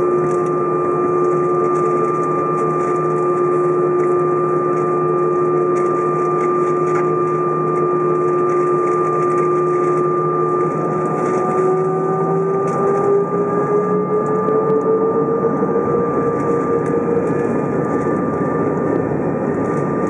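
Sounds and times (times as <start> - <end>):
jet engines whining in cabin: 0.0 - 20.0.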